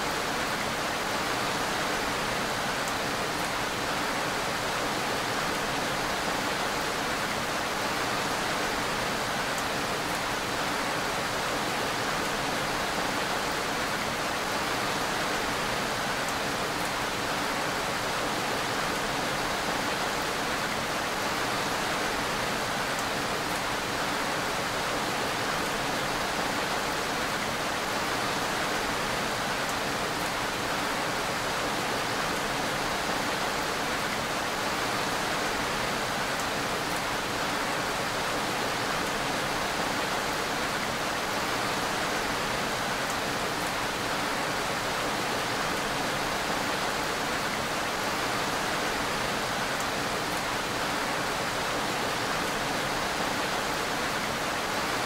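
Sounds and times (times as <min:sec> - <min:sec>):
dense rainfall hiss: 0:00.0 - 0:55.0.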